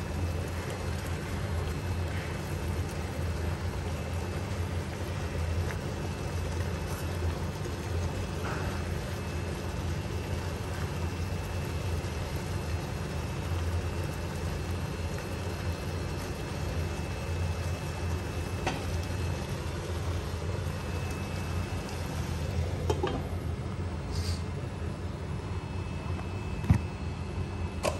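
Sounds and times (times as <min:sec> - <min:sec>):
prawns sizzling in a frying pan: 0:00.0 - 0:23.1.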